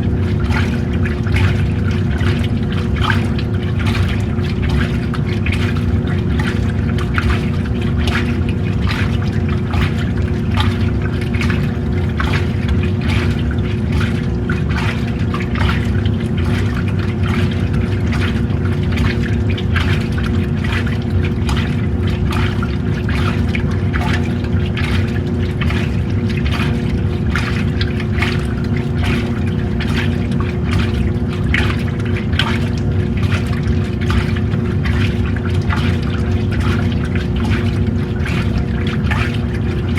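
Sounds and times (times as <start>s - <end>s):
washing machine motor hum: 0.0s - 39.9s
water sloshing in tub: 0.0s - 39.9s.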